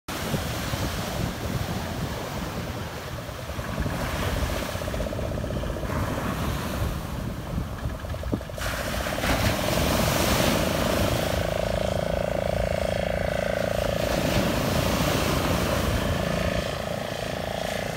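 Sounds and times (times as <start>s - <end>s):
surf breaking on shore: 0.1s - 16.9s
faint boat engine drone: 0.1s - 17.9s
wind buffeting microphone: 0.1s - 17.9s.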